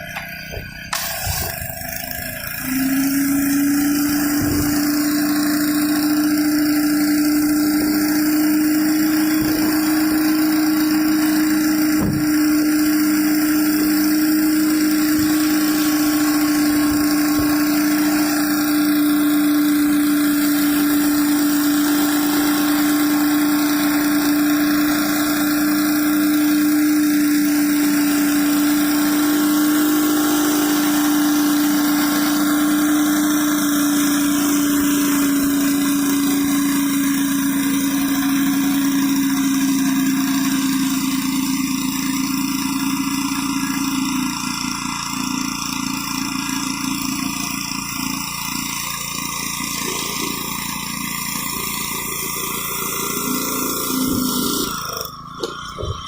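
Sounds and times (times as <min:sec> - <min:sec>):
pressure washer engine running: 0:00.0 - 0:56.0.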